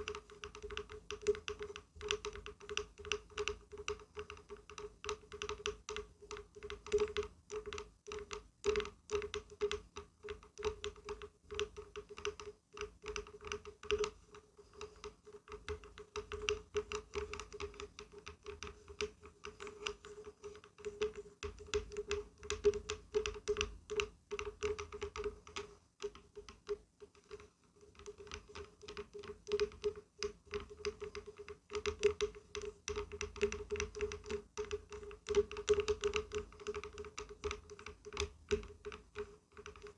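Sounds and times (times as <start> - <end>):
rapid tapping on wood: 0.0 - 39.9.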